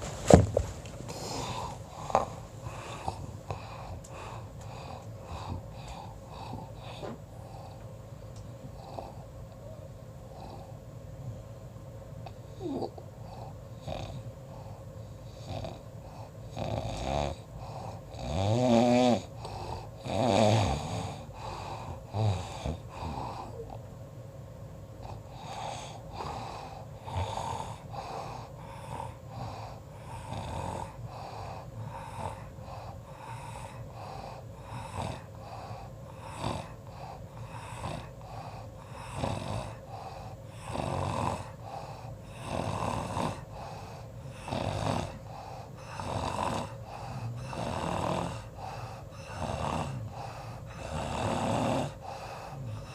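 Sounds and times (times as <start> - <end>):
person snoring: 1.1 - 7.8, 12.5 - 14.2, 15.4 - 23.8, 25.0 - 52.9.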